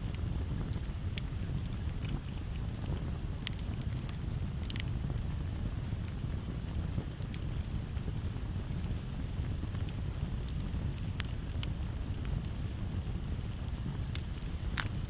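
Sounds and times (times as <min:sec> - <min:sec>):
campfire crackling and popping: 0:00.0 - 0:15.0
crickets trilling: 0:00.0 - 0:15.0
low rumble of wind: 0:00.0 - 0:15.0.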